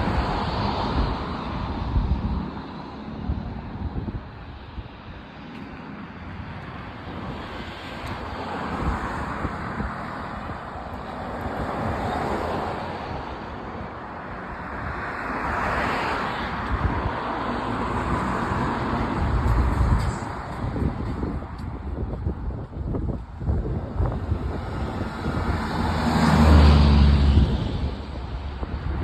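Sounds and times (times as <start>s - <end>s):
outdoor rushing noise: 0.0s - 29.0s
wind buffeting microphone: 0.0s - 29.0s.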